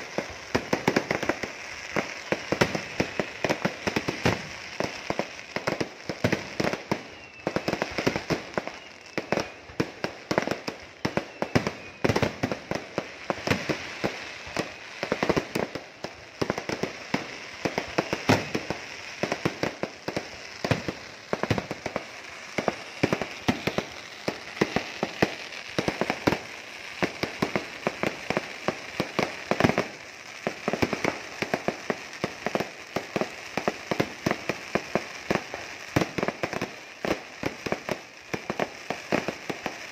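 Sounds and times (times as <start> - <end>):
firework bangs: 0.0 - 39.9.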